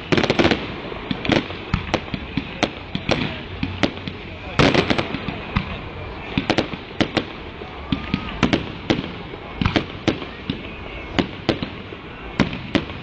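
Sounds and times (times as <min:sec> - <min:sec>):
fireworks bursting with sharp bangs: 0:00.0 - 0:13.0
steady background hiss: 0:00.0 - 0:13.0.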